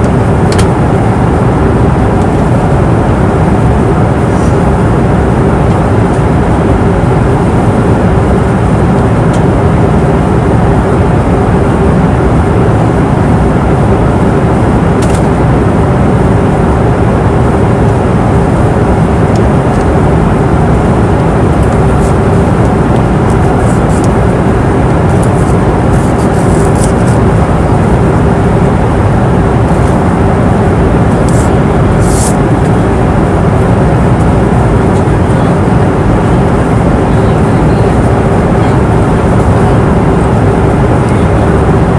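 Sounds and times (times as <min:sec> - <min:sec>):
airplane cabin engine rush: 0:00.0 - 0:41.9
steady hum: 0:00.0 - 0:41.9.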